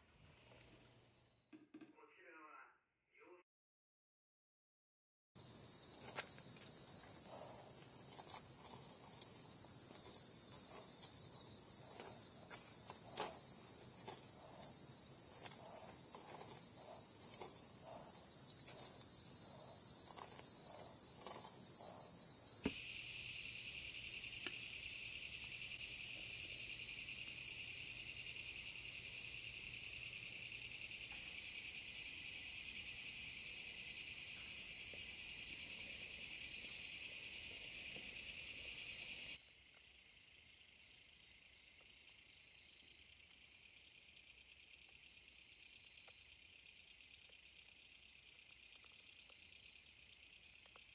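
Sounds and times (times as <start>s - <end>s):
crickets chirring: 0.0s - 2.1s, 5.4s - 50.9s.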